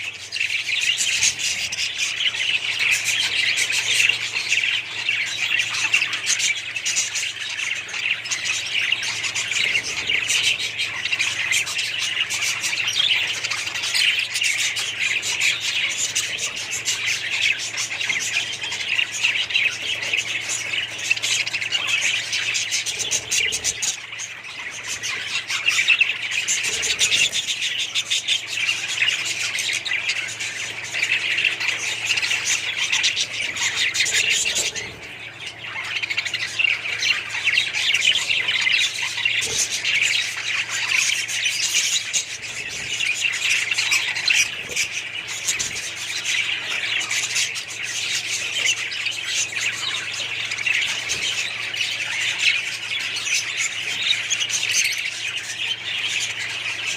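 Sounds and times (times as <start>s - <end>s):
parrots chirping and chattering: 0.0s - 56.9s.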